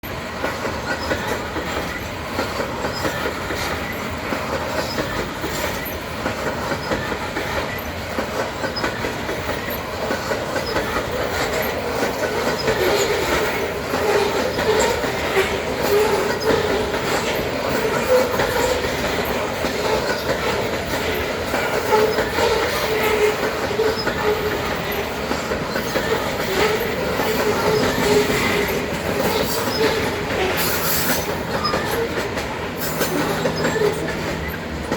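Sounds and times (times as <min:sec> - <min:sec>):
freight train rolling past: 0:00.0 - 0:34.9.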